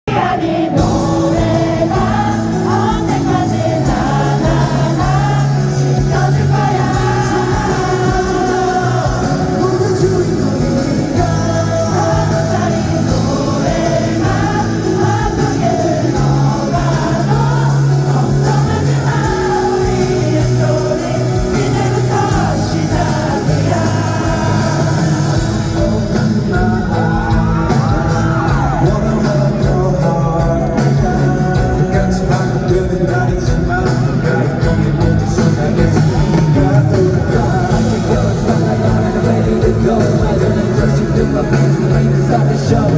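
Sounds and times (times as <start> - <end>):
live pop song with band: 0.0 - 42.9.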